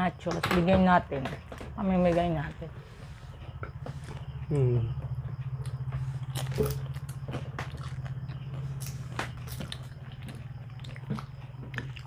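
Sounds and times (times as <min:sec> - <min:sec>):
steady low hum: 0:00.0 - 0:12.0
people chewing and crunching: 0:01.2 - 0:12.0.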